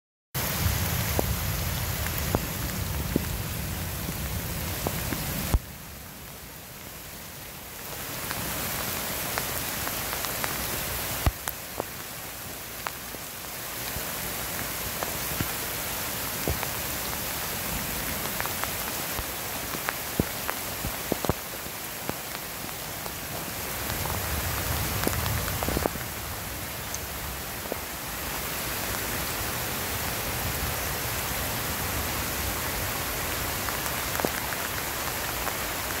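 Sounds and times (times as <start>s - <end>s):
rain on foliage: 0.4s - 36.0s
raindrops ticking close by: 0.4s - 36.0s.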